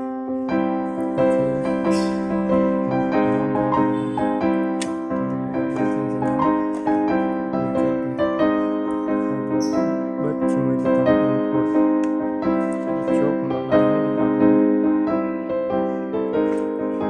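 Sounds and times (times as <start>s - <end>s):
electric piano music: 0.0s - 17.0s.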